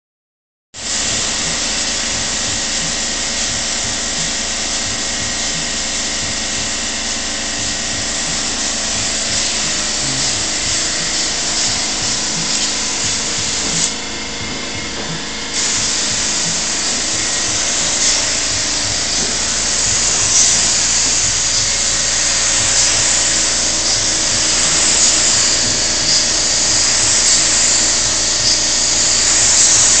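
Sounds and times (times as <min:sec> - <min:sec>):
steady hum: 0:00.8 - 0:28.6
spray gun hissing: 0:00.8 - 0:30.0.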